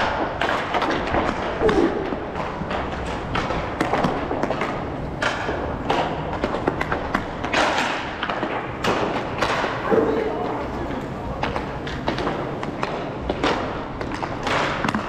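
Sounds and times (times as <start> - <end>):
inline skate wheels rolling: 0.0 - 15.0
sticks and puck clacking: 0.0 - 15.0.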